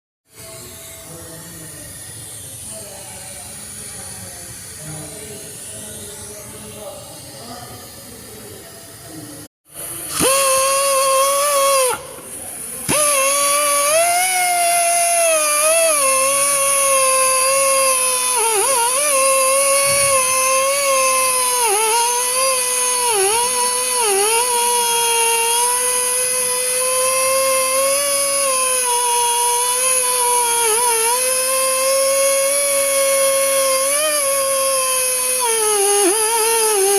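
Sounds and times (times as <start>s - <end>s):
machine motor high whine: 0.3s - 36.9s.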